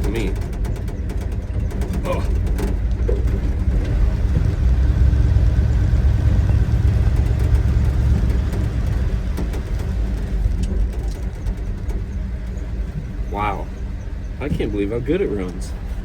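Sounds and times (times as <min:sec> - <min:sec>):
pickup truck engine rumble: 0:00.0 - 0:16.0.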